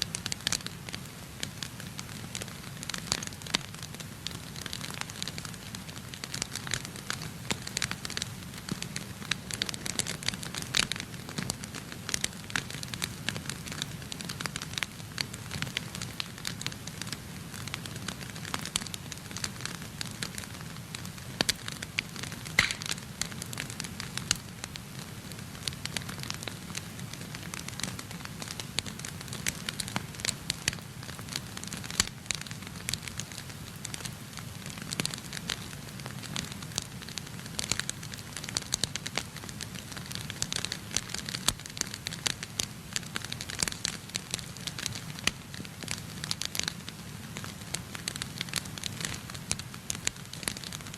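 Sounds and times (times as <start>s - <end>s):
wood fire crackling and popping: 0.0s - 50.9s
low rumble of flames: 0.1s - 50.9s.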